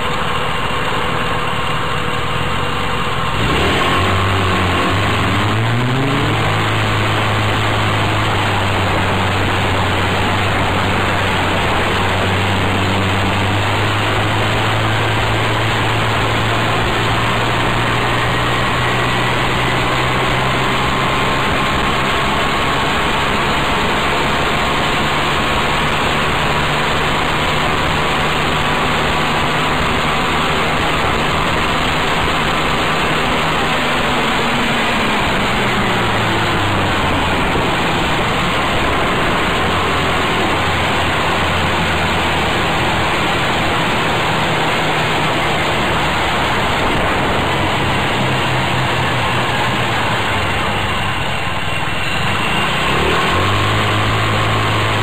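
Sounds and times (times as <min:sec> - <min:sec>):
buggy engine running: 0:00.0 - 0:55.0
steady rush of noise: 0:00.0 - 0:55.0.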